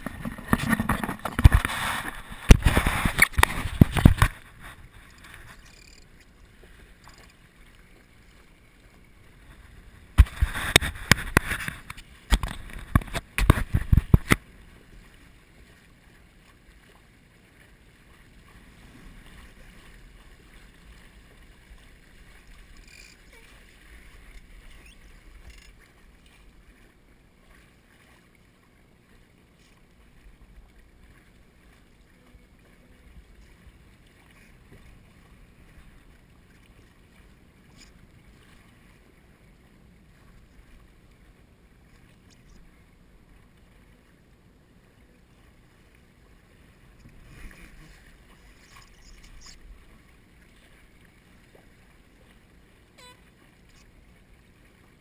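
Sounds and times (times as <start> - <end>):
water washing against hull: 0.0 - 55.0.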